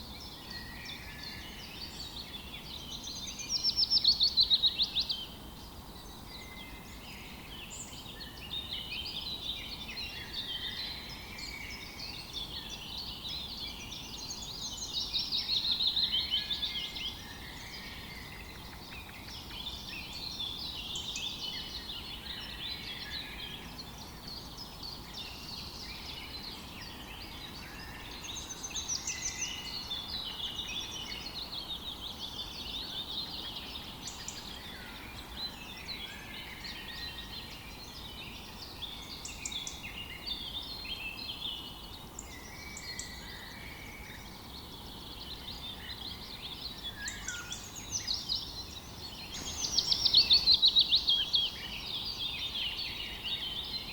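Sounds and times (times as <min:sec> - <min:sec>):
faint low hiss: 0:00.0 - 0:53.9
songbirds chirping and singing: 0:00.0 - 0:53.9.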